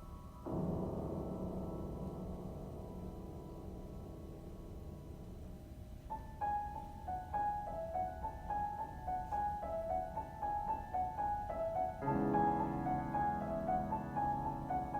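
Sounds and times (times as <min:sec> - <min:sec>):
high piano melody: 0:00.0 - 0:14.9
low piano chords: 0:00.0 - 0:14.9.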